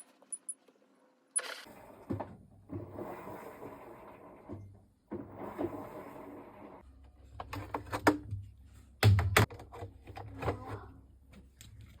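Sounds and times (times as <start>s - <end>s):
washing machine hum: 1.6s - 12.0s.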